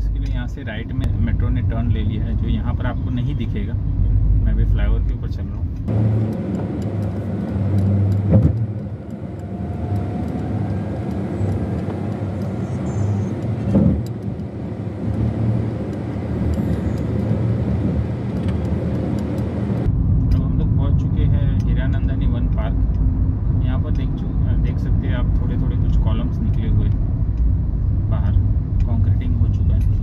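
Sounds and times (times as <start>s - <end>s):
car engine hum: 0.0s - 30.0s
road rumble: 0.0s - 30.0s.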